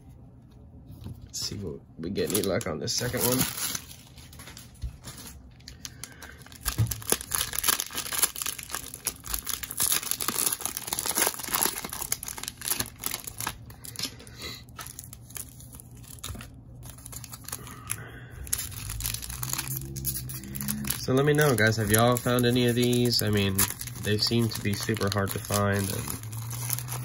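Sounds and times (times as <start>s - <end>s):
cellophane wrapper crinkling and tearing: 2.1s - 27.0s.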